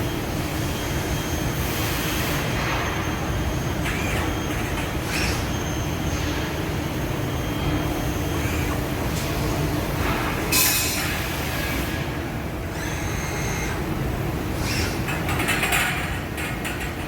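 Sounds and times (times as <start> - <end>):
machine humming with faint whine: 0.0 - 17.0.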